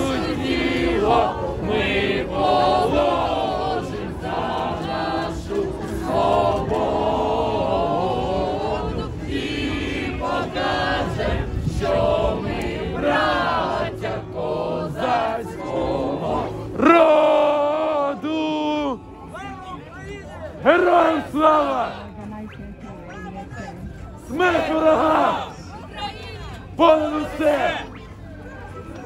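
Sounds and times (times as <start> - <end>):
crowd singing in unison: 0.0 - 19.0, 20.4 - 29.0.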